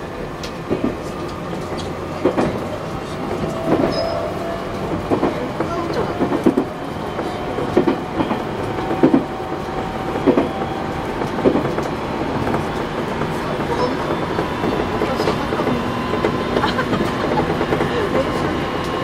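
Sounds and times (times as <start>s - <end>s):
train running rumble: 0.0s - 19.0s
wheels clacking over rail joints: 0.0s - 19.0s.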